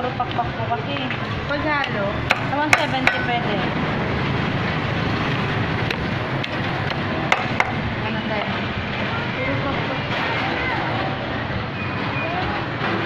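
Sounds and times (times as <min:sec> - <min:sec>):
voices: 0:00.0 - 0:04.0, 0:05.9 - 0:13.0
street traffic noise: 0:00.0 - 0:13.0.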